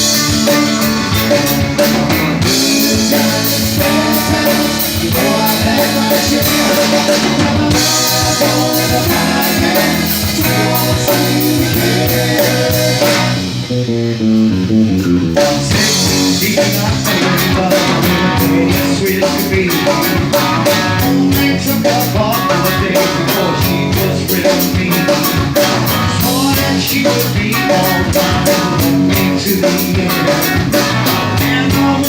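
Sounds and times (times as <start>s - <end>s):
bass guitar: 0.0s - 32.0s
drum kit beat: 0.0s - 32.0s
electric guitar: 0.0s - 32.0s.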